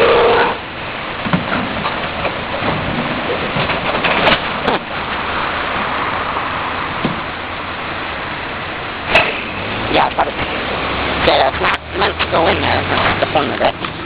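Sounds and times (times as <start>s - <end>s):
garbage truck running: 0.0s - 14.0s.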